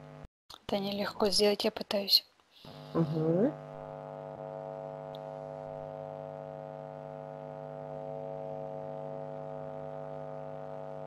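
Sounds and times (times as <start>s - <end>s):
steady hum with overtones: 0.0s - 11.0s.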